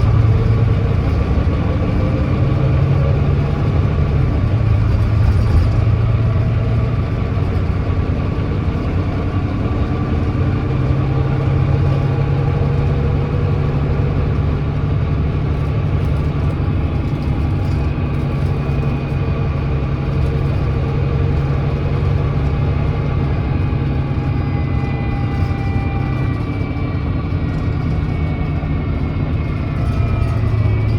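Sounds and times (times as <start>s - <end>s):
bus diesel engine running: 0.0s - 30.9s.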